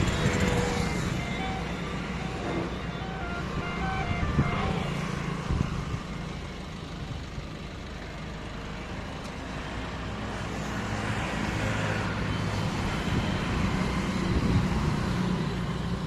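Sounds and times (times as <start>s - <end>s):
engine hum and tyre noise: 0.0s - 16.0s
vehicles passing on road: 0.0s - 16.0s.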